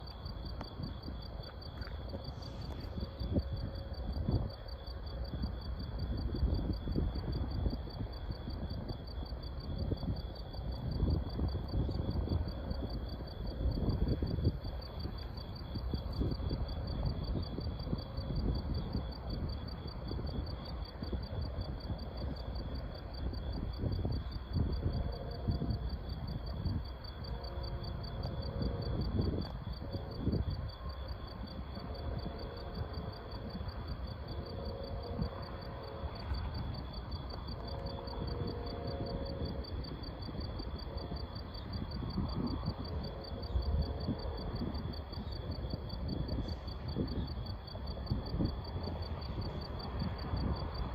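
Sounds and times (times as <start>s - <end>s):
faint steady tones: 0.0s - 50.9s
insect chorus trilling: 0.0s - 50.9s.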